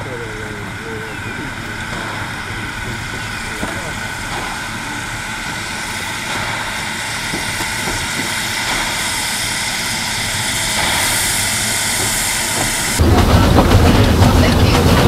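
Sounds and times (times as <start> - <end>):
steam motor coach running: 0.0 - 15.0.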